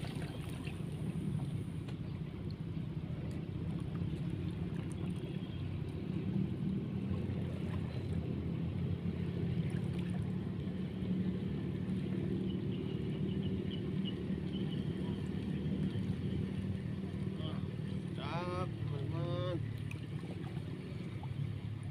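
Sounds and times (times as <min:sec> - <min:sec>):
motorboat engine drone: 0:00.0 - 0:21.9.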